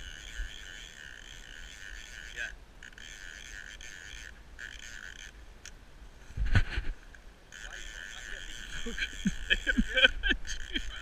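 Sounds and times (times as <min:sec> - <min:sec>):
fishing reel click buzzing: 0:00.0 - 0:05.8, 0:07.1 - 0:11.0.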